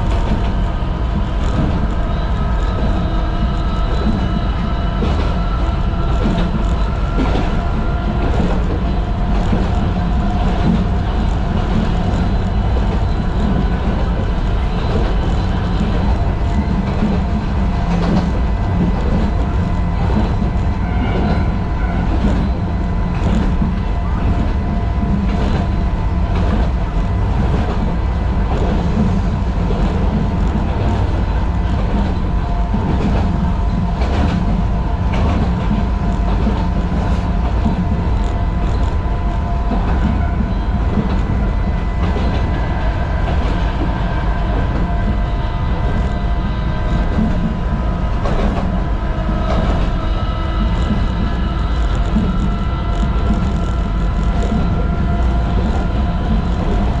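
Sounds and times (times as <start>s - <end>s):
high hum: 0.0s - 57.0s
train rumble: 0.0s - 57.0s.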